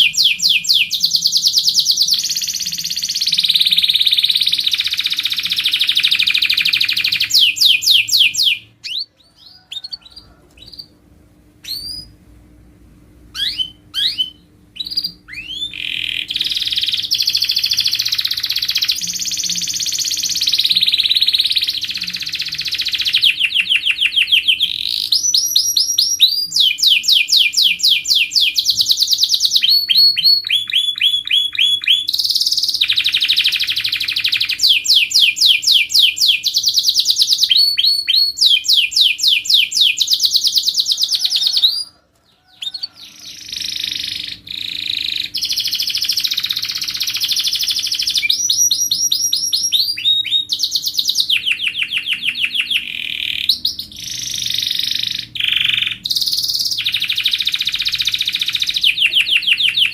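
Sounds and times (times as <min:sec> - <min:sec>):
canary singing trills: 0:00.0 - 0:11.0, 0:11.6 - 0:12.2, 0:13.3 - 0:59.9.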